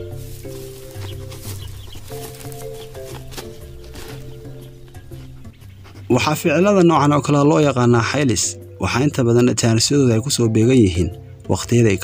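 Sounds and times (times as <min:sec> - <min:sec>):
background music held chords: 0:00.0 - 0:12.0.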